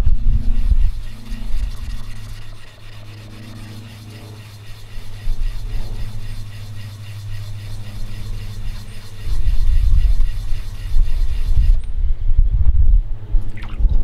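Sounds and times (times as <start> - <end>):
metal scraping on grinding stone: 0.0 - 11.9.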